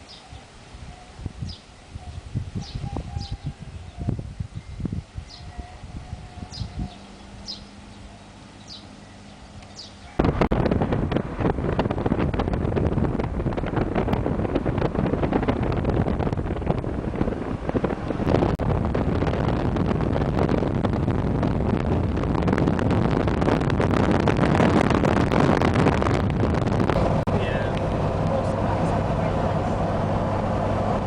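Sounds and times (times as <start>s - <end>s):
wind buffeting microphone: 0.0s - 31.0s
car road noise: 5.1s - 31.0s.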